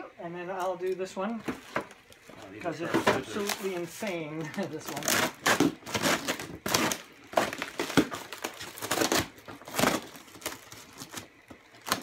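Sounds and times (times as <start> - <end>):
tape and cardboard rustling: 0.6 - 12.0.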